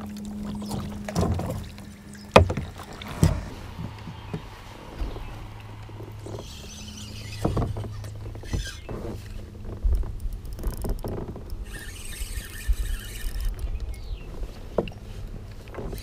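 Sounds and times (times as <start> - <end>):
gear knocking against hull: 0.0 - 16.0.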